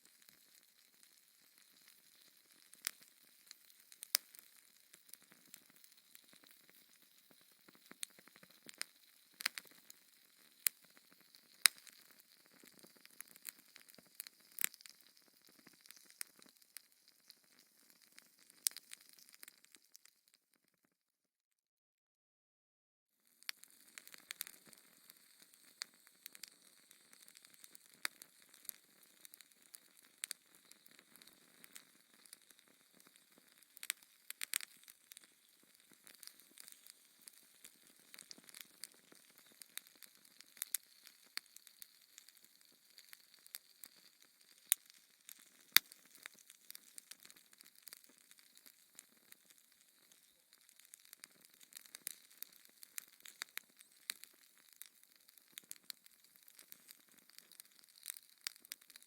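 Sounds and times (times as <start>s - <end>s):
wood fire crackling: 0.0s - 20.1s, 23.4s - 59.0s.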